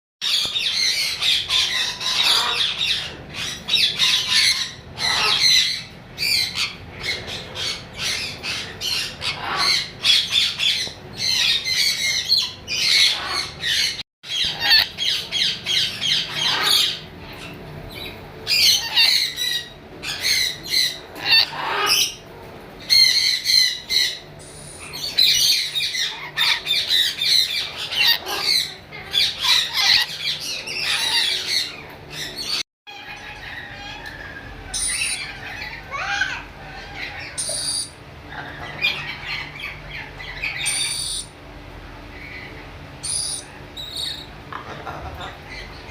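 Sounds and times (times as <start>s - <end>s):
parrot squawking: 0.2s - 41.4s, 42.1s - 45.9s.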